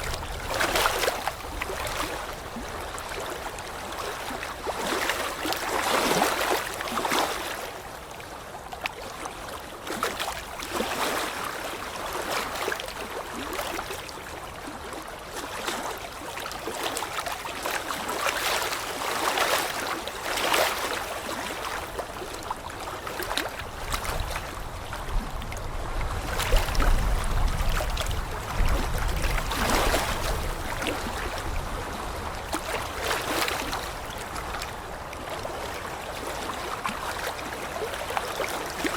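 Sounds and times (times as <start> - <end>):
running water splashing and gurgling: 0.0 - 8.3, 9.0 - 38.9.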